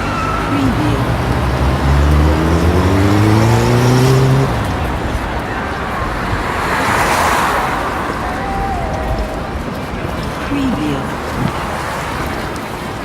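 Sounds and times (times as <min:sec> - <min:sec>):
traffic noise: 0:00.0 - 0:13.0
vehicle engine accelerating: 0:00.0 - 0:13.0
vehicle passing by: 0:00.0 - 0:13.0.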